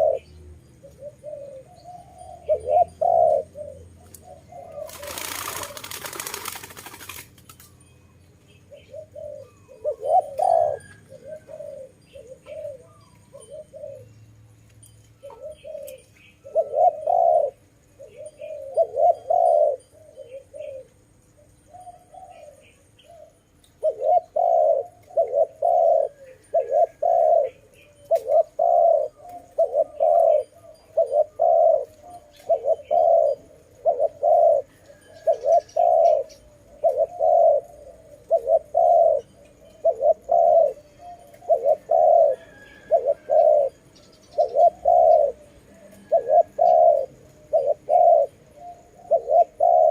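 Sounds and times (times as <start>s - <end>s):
dove cooing: 0.0s - 7.4s, 8.5s - 14.3s, 15.2s - 49.9s
small birds chirping: 0.0s - 49.9s.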